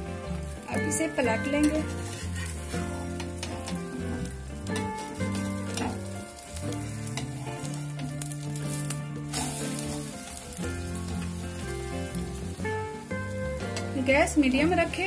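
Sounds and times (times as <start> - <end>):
background music: 0.0 - 15.0
omelette sizzling in oil: 0.0 - 15.0.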